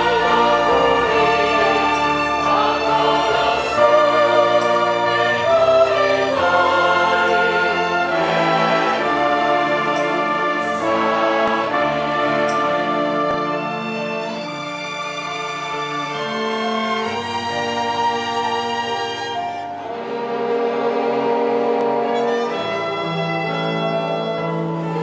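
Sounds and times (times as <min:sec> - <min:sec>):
mixed choir singing: 0:00.0 - 0:25.0
string orchestra of violins: 0:00.0 - 0:25.0.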